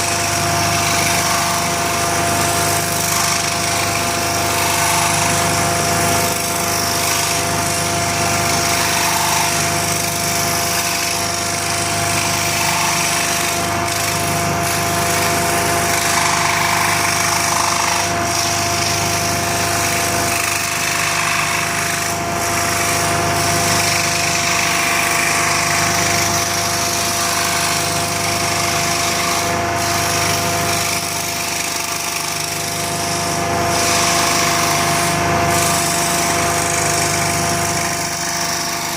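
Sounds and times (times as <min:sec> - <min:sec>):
power tool motor whining: 0:00.0 - 0:38.9.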